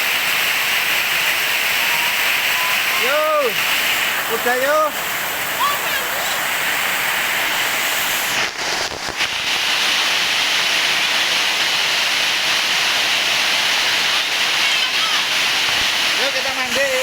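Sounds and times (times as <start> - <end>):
rain pouring: 0.0 - 17.0.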